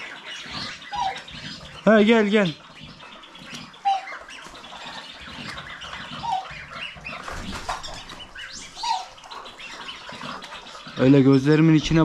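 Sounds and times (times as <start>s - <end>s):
poultry and ducks calling: 0.0s - 12.0s.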